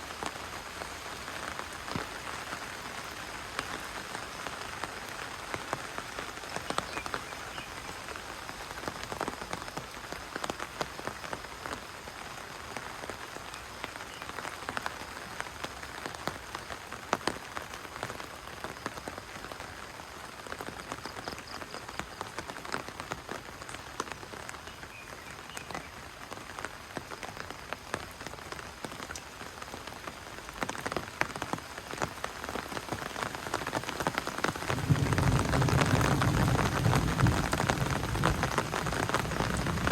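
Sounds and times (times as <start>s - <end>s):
rain hissing: 0.0s - 39.9s
raindrops ticking close by: 0.0s - 39.9s.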